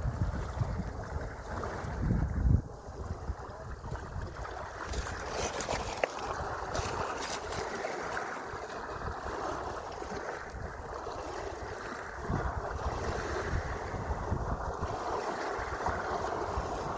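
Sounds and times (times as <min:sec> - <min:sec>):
sea waves washing: 0:00.0 - 0:16.9
wind buffeting microphone: 0:00.0 - 0:16.9.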